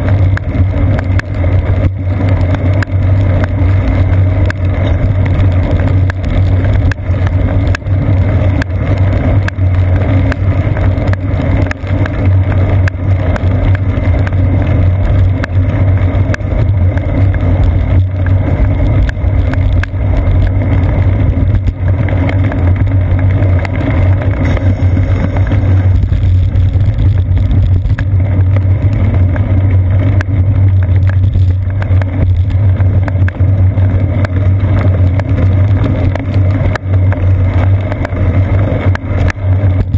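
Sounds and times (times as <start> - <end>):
bicycle tyres on wet pavement: 0.0 - 39.9
road vibration rumble: 0.0 - 39.9
wind: 0.0 - 39.9
small clicks and knocks: 0.1 - 39.9.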